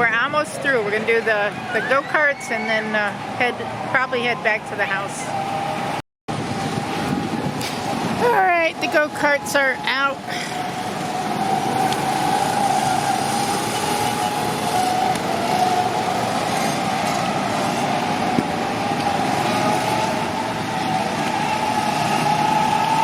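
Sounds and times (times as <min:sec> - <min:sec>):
go-kart engines whining: 0:00.0 - 0:23.0.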